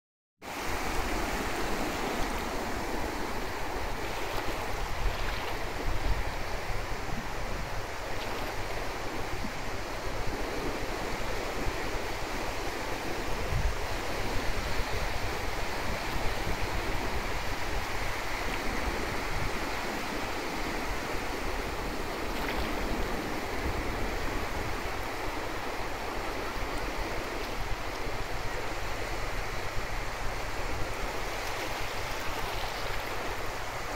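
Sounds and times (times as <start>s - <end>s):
small waves lapping on shore: 0.5s - 33.9s
wind rumble on microphone: 0.5s - 33.9s.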